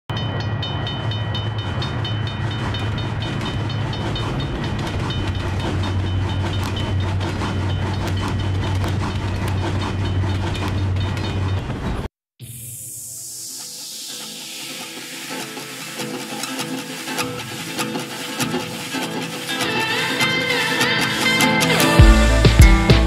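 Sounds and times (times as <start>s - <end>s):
train rumbling past: 0.1s - 22.5s.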